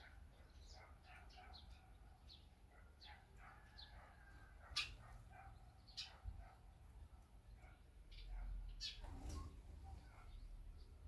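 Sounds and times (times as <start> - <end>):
sparrows chirping: 0.0 - 11.0.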